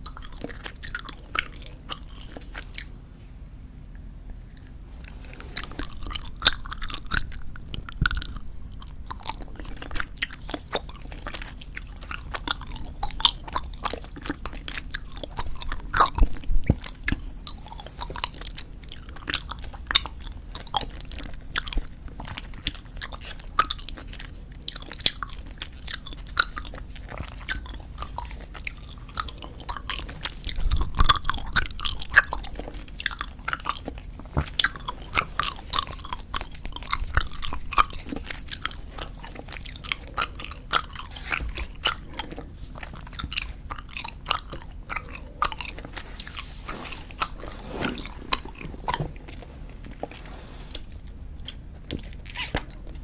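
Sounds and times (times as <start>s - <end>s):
chewing gum mouth clicks: 0.0s - 3.0s, 3.9s - 46.4s.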